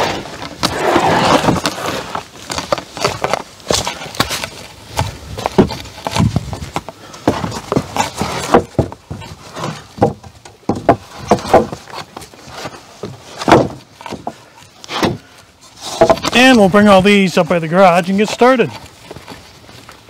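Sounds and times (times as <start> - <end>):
wooden boards knocking and clattering: 0.0 - 16.7.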